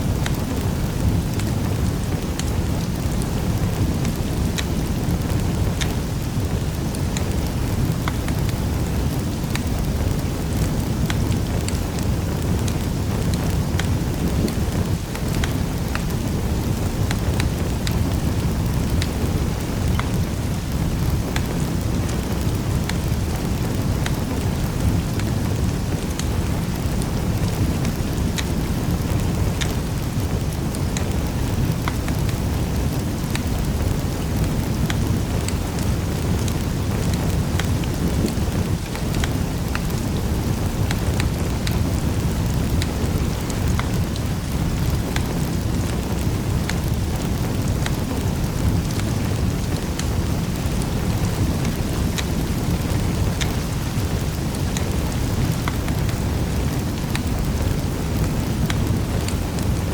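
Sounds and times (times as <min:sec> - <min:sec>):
fire crackling and popping: 0:00.0 - 0:59.9
fire rumbling: 0:00.0 - 0:59.9.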